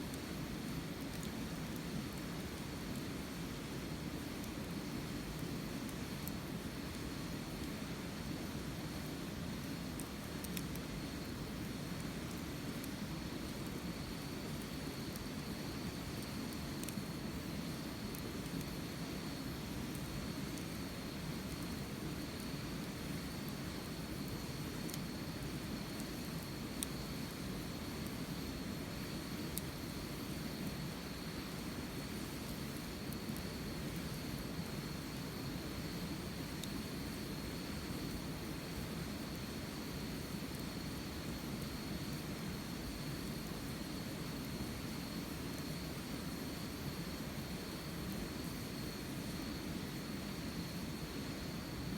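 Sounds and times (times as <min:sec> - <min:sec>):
campfire burning: 0:00.0 - 0:51.9
fire crackling: 0:00.1 - 0:51.9.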